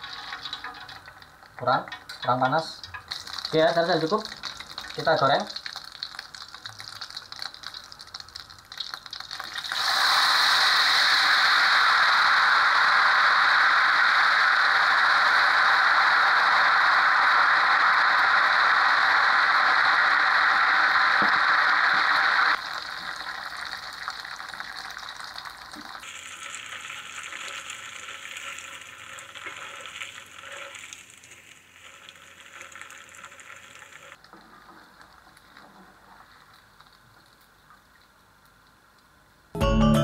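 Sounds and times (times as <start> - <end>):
oil crackling: 0.0 - 38.8
batter sizzling in hot oil: 0.0 - 38.9.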